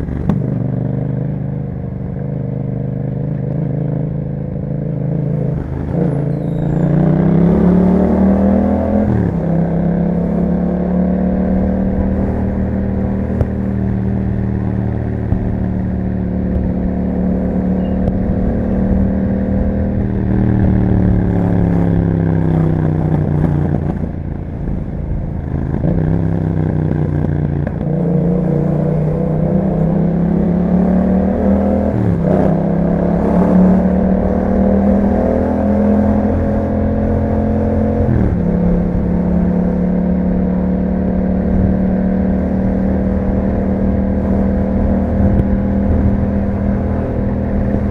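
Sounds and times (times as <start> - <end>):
motorcycle engine revving and shifting: 0.0 - 47.9.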